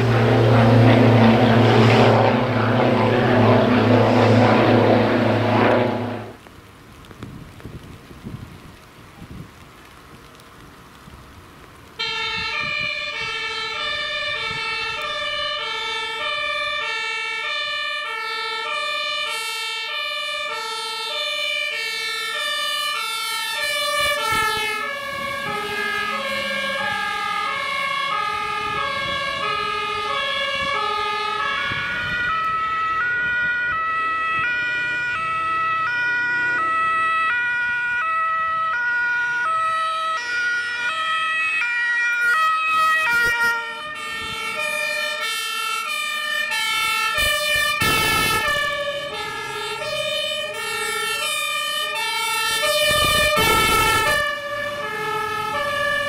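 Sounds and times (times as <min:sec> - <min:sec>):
second siren: 0:00.0 - 0:06.4, 0:12.0 - 0:56.0
two-tone siren: 0:00.0 - 0:06.4, 0:12.0 - 0:56.0.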